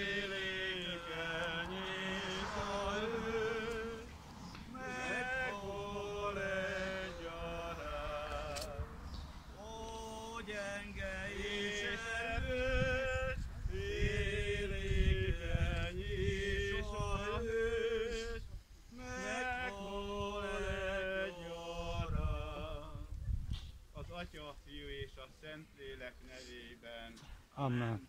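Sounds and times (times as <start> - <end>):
man singing a chant: 0.0 - 4.1, 4.7 - 9.0, 9.6 - 23.2, 24.0 - 28.0.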